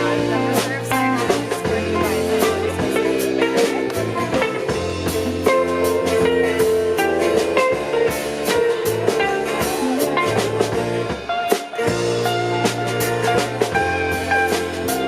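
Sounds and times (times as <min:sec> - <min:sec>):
drums: 0:00.0 - 0:15.0
guitar: 0:00.0 - 0:15.0.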